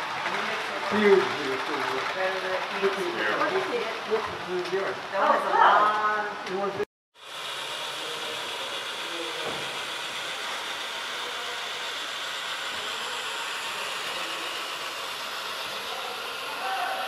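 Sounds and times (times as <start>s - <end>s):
model trains rolling on track: 0.0s - 5.4s, 6.4s - 17.0s.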